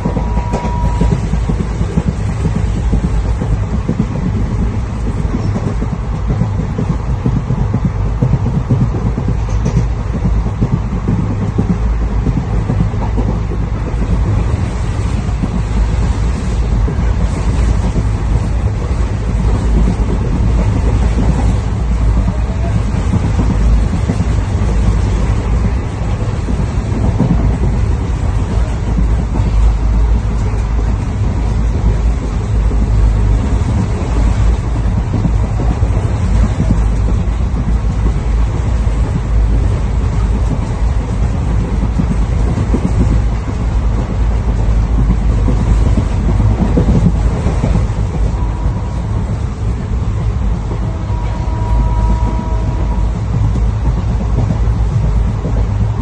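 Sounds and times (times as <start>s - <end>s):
steady tone: 0.0s - 9.2s, 9.9s - 56.0s
train rumbling: 0.0s - 56.0s.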